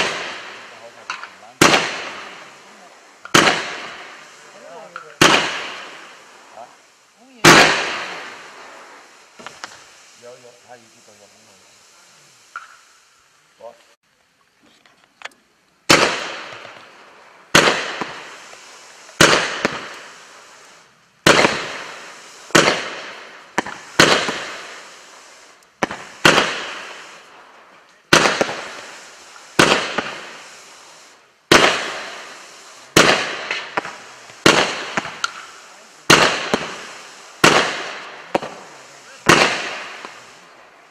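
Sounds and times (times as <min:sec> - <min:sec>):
firework shots firing: 0:00.0 - 0:11.7, 0:12.5 - 0:12.9, 0:15.8 - 0:40.9
firework hissing fizzing tail: 0:00.0 - 0:13.8, 0:15.8 - 0:40.9.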